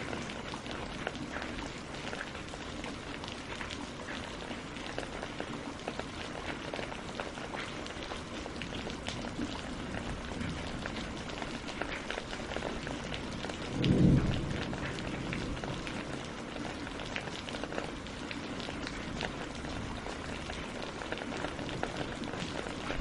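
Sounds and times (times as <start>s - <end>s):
rain falling on lake and leaves: 0.0s - 23.0s.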